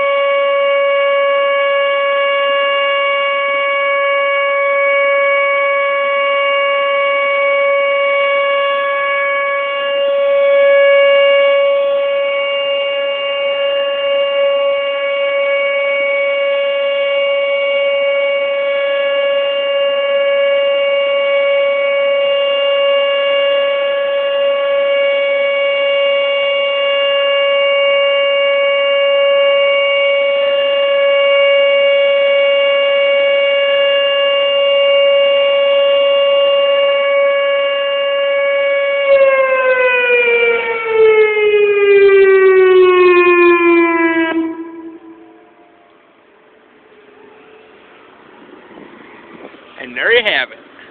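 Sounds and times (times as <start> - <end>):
warning siren steady tone: 0.0 - 50.9.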